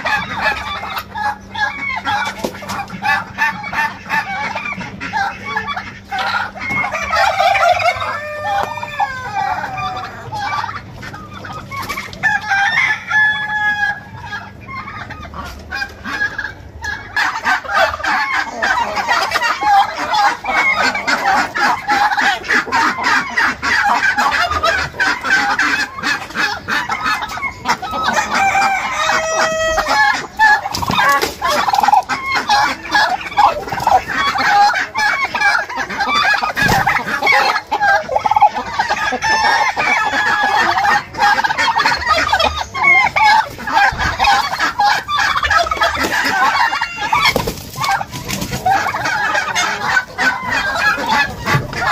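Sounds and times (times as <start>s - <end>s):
chickens clucking: 0.0s - 51.9s
roosters crowing: 0.0s - 51.9s.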